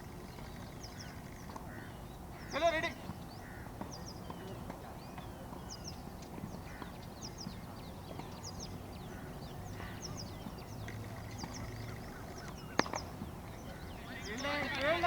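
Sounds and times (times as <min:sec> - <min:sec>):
birds chirping: 0:00.0 - 0:15.0
low steady background noise: 0:00.0 - 0:15.0.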